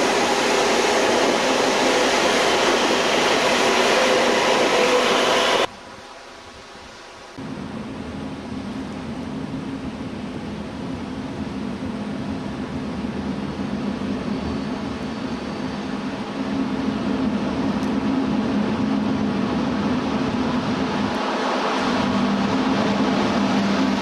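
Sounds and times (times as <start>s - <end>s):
high-speed train approaching: 0.0s - 24.0s.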